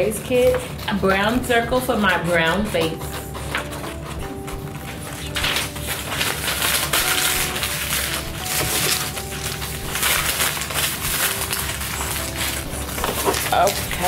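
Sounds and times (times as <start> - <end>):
paper rustling and crinkling: 0.0 - 14.0
scissors cutting paper: 0.0 - 14.0.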